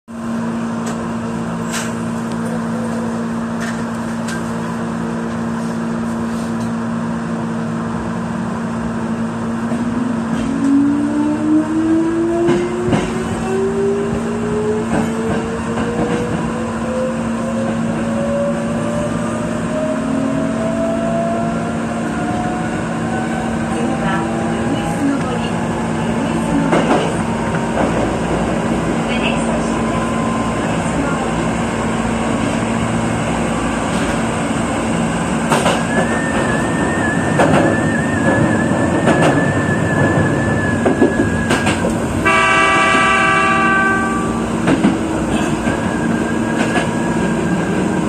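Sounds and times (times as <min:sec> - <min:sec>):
train equipment hum: 0:00.1 - 0:48.0
wheels rumbling on rails: 0:00.1 - 0:48.0.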